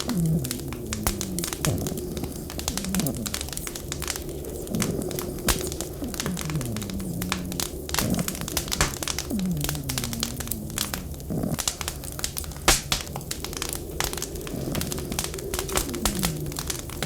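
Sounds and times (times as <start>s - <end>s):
wind whistling: 0.0s - 17.0s
wood fire crackling and popping: 0.0s - 17.0s.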